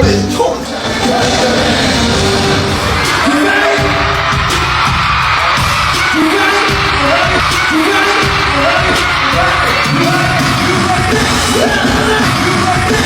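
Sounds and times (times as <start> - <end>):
heavy bass beat: 0.0 - 13.0
pop music with sung vocals: 0.0 - 13.0.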